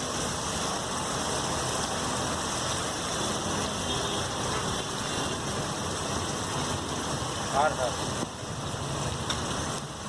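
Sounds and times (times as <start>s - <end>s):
oil and masala sizzling on griddle: 0.0s - 10.0s.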